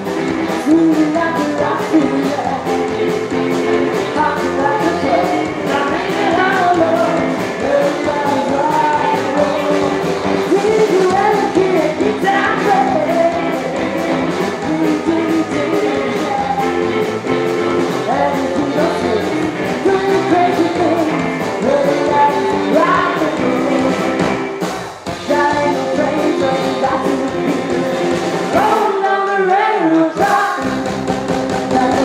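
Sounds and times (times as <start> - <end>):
woman singing: 0.0 - 24.4, 25.1 - 31.0, 31.6 - 32.0
drums keeping a steady beat: 0.0 - 32.0
electric guitar: 0.0 - 32.0.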